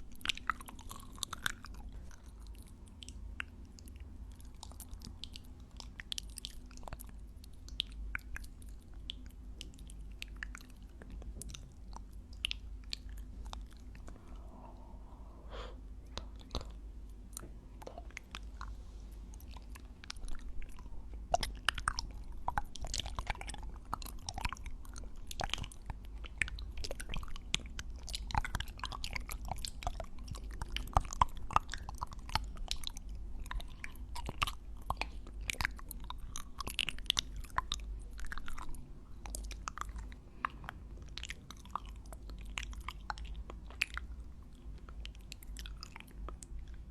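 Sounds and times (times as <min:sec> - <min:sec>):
close chewing and biting: 0:00.0 - 0:14.8, 0:16.0 - 0:46.9.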